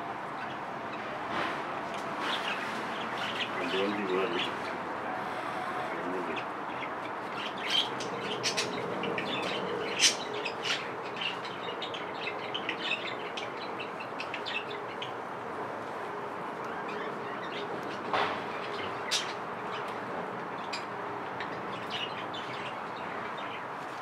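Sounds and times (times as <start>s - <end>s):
birds chirping: 2.2s - 15.4s, 16.6s - 23.8s.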